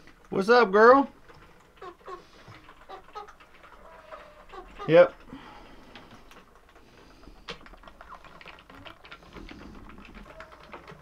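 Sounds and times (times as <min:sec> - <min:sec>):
chickens pecking and scratching straw: 0:00.0 - 0:11.0.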